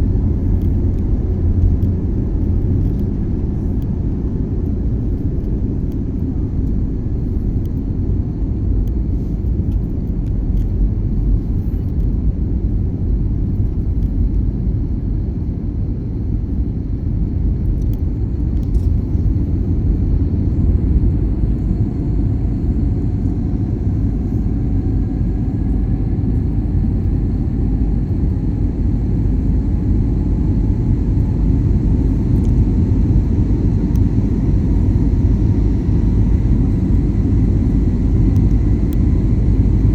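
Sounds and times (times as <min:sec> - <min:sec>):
airplane taking off rumble: 0:00.0 - 0:39.9.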